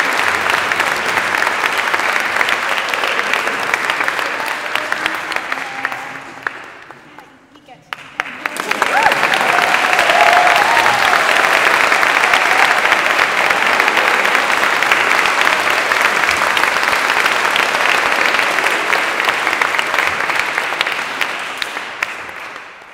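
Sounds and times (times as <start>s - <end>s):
audience applauding: 0.0s - 22.9s.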